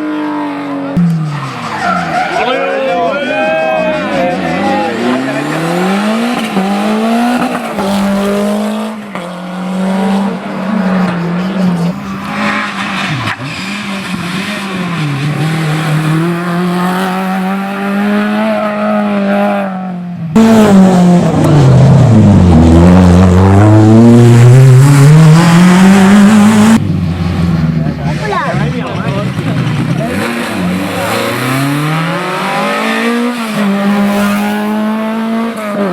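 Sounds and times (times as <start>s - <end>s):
car accelerating away: 0.0s - 35.9s
rally car engines at high revs: 0.0s - 35.9s.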